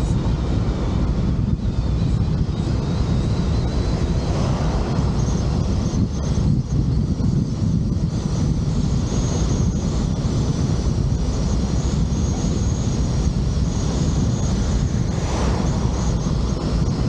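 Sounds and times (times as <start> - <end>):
faint high whine: 0.0 - 17.0
vehicle road noise: 0.0 - 17.0
wind buffeting microphone: 0.0 - 17.0.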